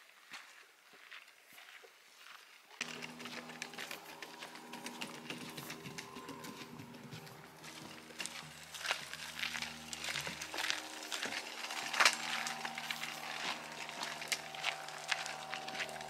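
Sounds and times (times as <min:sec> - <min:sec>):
footsteps crunching on a trail: 0:00.0 - 0:16.0.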